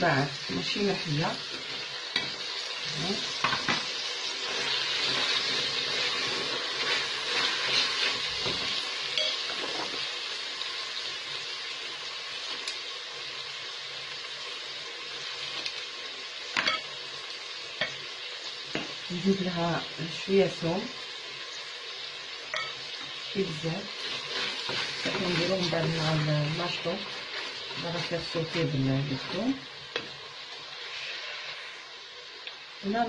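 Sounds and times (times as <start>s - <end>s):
food sizzling in a pot: 0.0s - 33.0s.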